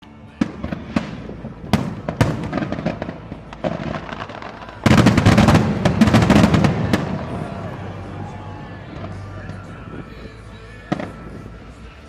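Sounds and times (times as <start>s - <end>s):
fireworks crackle and rumble: 0.0s - 12.0s
fireworks bursting: 0.1s - 12.0s.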